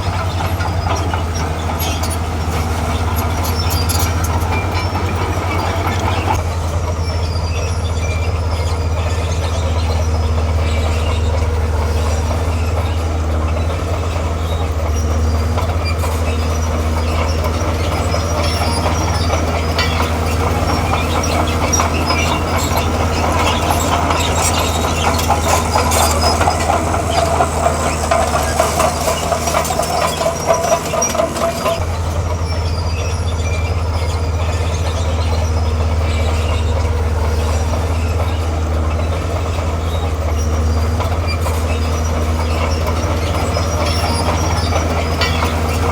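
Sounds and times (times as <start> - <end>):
bulldozer diesel engine running: 0.0 - 45.9
steel tracks clanking and squealing: 0.0 - 45.9.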